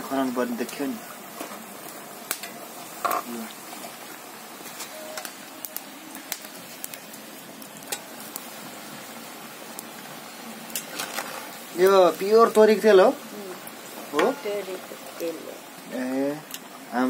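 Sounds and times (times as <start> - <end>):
oil sizzling with pops and crackles: 0.0 - 17.0.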